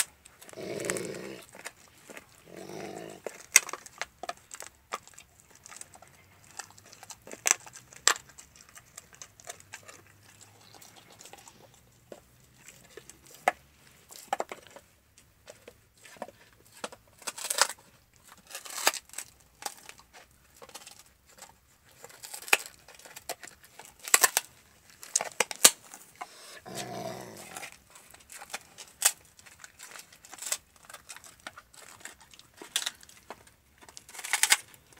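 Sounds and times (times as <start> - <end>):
dog chewing on bone: 0.0 - 34.9.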